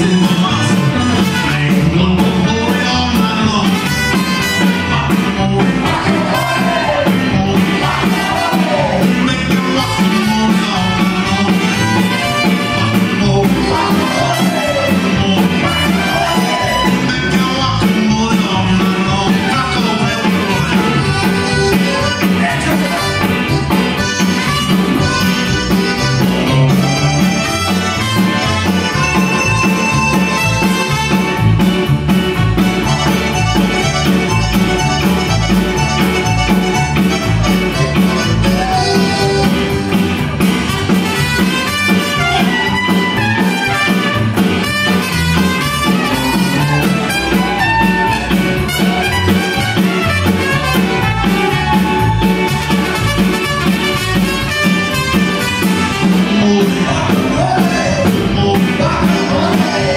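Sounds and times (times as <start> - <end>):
band playing live: 0.0 - 59.9
button accordion: 0.0 - 59.9
trumpet: 0.5 - 2.2, 3.5 - 5.1, 5.9 - 17.6, 19.2 - 31.6, 32.3 - 58.0.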